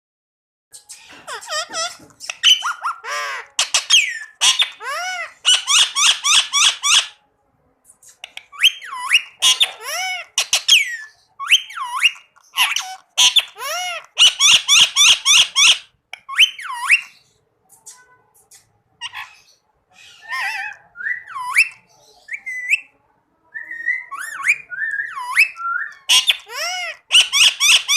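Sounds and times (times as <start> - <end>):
parakeet calling: 0.8 - 7.2, 8.2 - 17.3, 19.0 - 22.9, 23.8 - 27.9.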